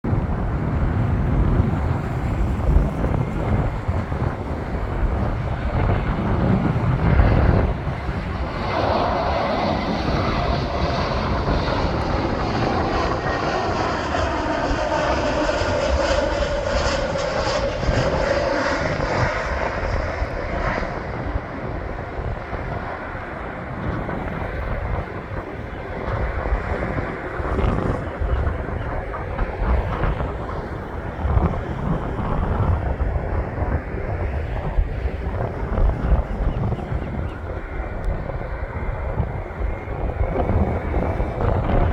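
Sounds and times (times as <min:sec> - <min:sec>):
jet airliner engines: 0:00.0 - 0:41.9.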